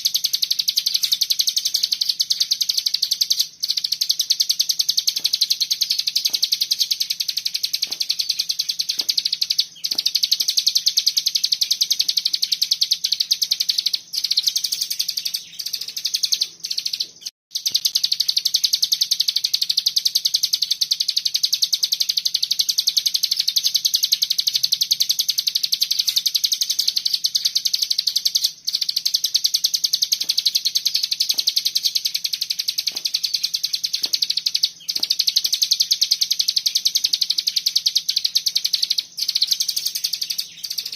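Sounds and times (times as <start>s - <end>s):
songbird high-pitched trill: 0.0s - 40.9s.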